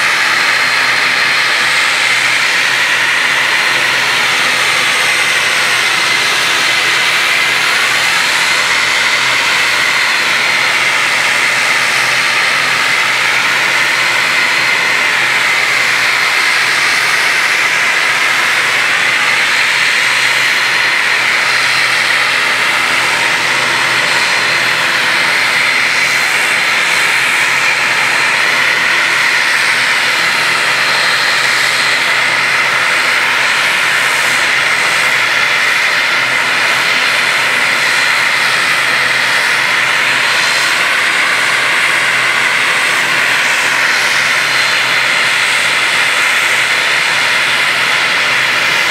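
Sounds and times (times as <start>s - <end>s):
turboprop engines idling: 0.0s - 48.9s.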